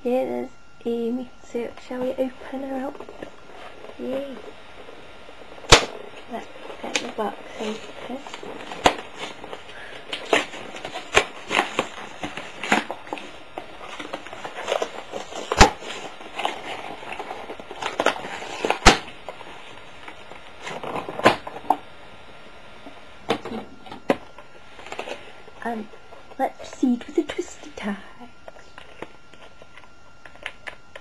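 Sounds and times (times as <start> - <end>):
packaging crackling and rustling: 2.1 - 31.0.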